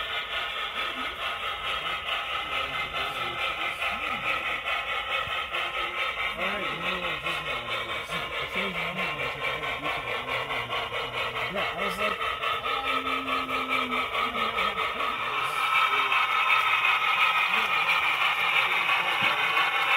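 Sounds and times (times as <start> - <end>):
model steam locomotive chuffing: 0.0 - 19.9.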